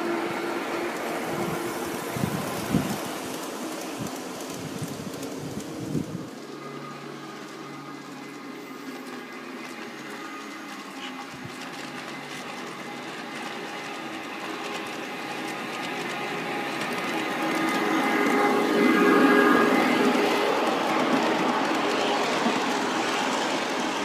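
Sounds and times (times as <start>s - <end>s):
electric locomotive whine: 0.0s - 24.0s
model train wheels rolling: 0.0s - 24.0s.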